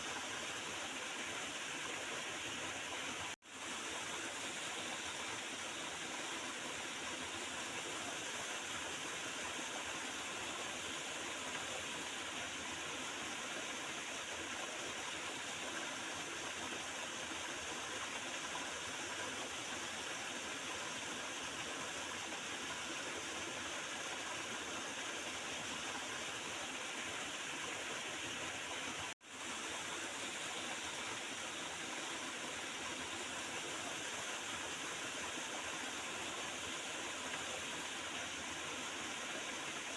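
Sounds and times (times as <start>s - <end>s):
river water gurgling: 0.0s - 39.9s.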